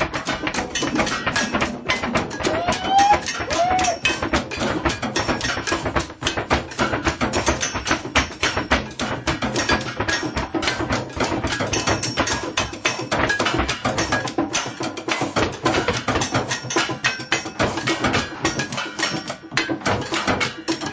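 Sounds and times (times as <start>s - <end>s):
drumming on kitchen objects: 0.0s - 20.9s.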